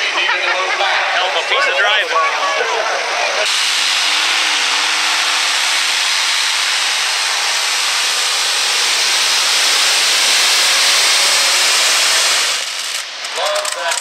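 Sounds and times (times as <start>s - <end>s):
pulling tractor engine roaring: 0.0s - 14.0s.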